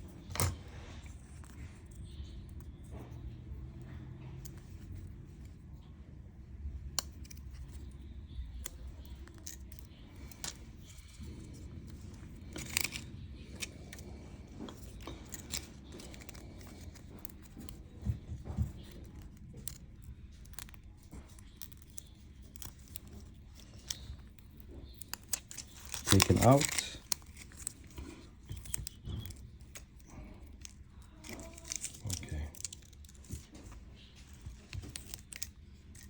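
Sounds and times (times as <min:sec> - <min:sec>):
low room hum: 0:00.0 - 0:36.0.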